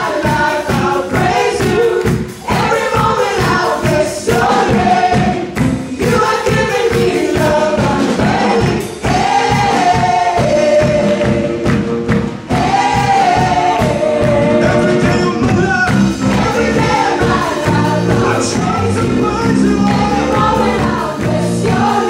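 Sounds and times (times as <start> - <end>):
drums: 0.0 - 22.0
voices singing gospel song: 0.0 - 22.0.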